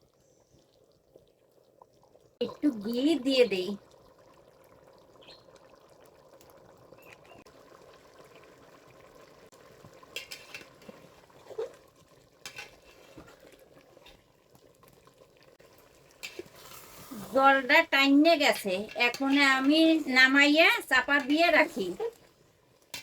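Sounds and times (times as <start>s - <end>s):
rice simmering with bubbling hiss: 0.0s - 23.0s.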